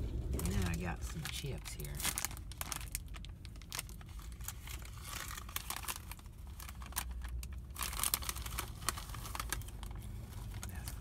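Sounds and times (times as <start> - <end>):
chip bag crinkling open: 0.2 - 11.0.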